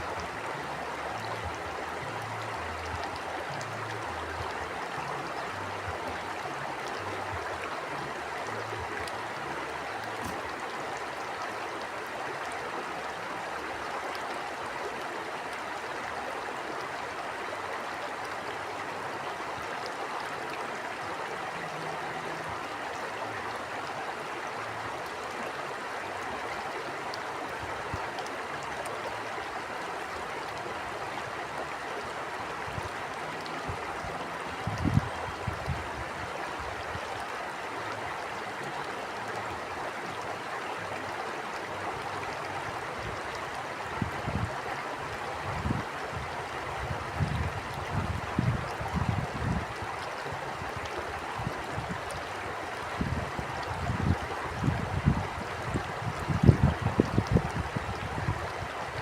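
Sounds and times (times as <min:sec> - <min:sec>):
stream of water flowing: 0:00.0 - 0:59.0.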